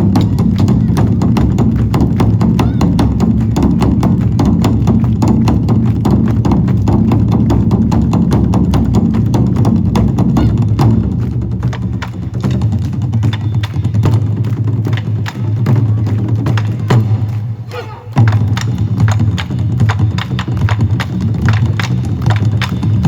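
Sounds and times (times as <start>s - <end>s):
drum ensemble playing fast rhythm: 0.0s - 23.0s.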